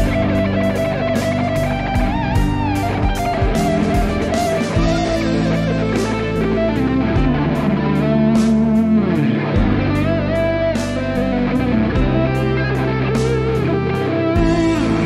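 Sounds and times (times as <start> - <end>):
electric guitar picked melody: 0.0 - 15.0.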